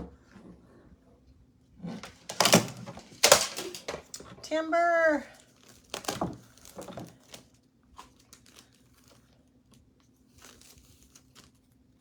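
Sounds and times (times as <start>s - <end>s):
thin plastic sheets crinkling: 2.0s - 11.8s.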